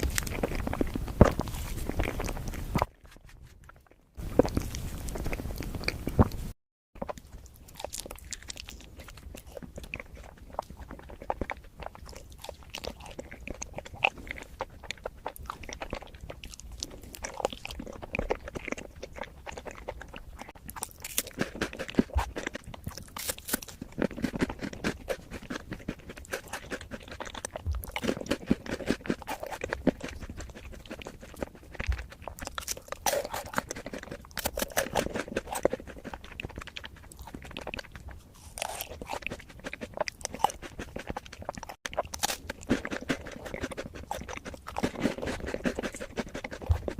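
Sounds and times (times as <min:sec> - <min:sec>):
close chewing and crunching: 0:00.0 - 0:46.9.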